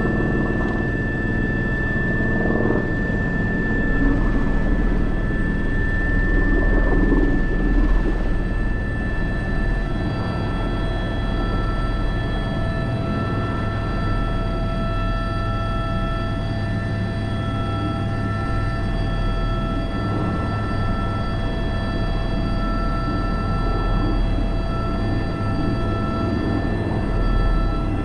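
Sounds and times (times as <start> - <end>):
helicopter rotor drone: 0.0 - 28.0
high turbine whine: 0.0 - 28.0.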